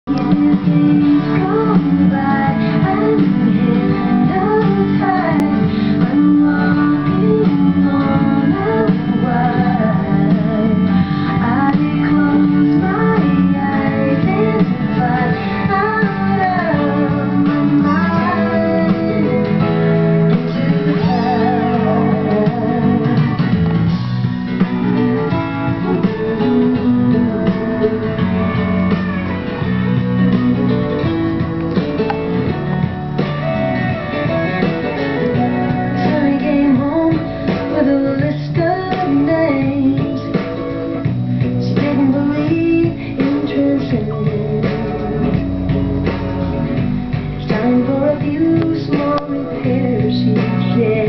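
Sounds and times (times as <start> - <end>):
guitar song with singing: 0.1 - 51.0.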